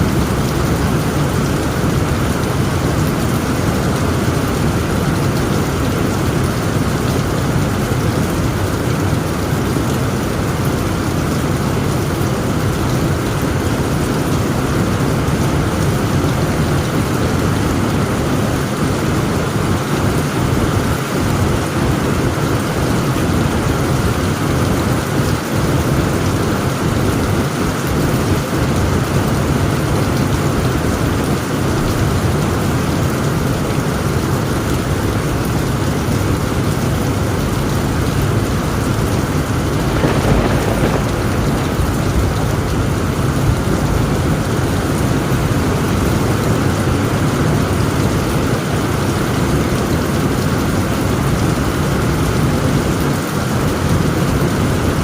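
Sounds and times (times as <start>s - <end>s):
low rumble of thunder: 0.0s - 48.4s
heavy rain on a tent roof: 0.0s - 55.0s.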